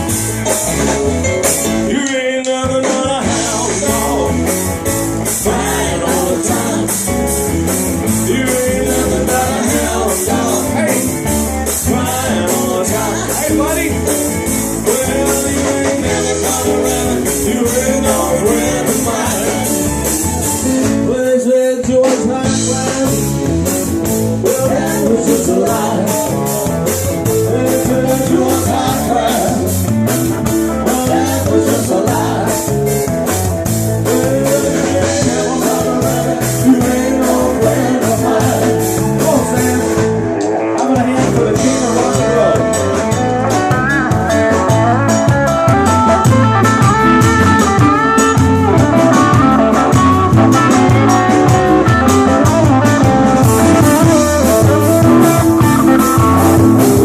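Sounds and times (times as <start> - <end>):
live blues rock band: 0.0 - 57.0.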